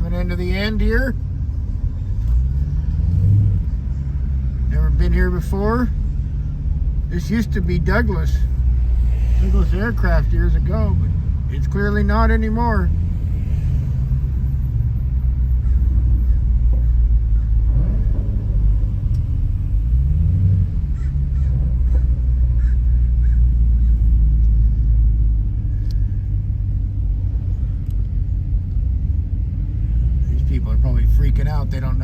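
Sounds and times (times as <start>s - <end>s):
car engine rumbling: 0.0s - 32.0s.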